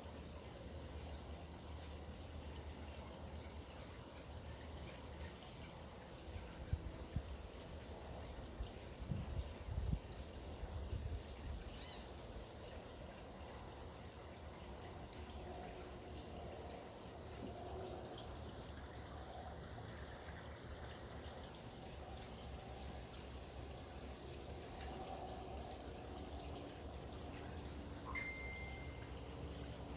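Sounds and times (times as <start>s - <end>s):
water trickling: 0.0s - 29.9s.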